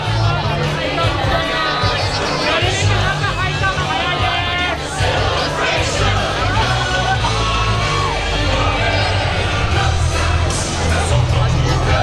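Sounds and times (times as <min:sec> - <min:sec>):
parade music with heavy bass: 0:00.0 - 0:12.0.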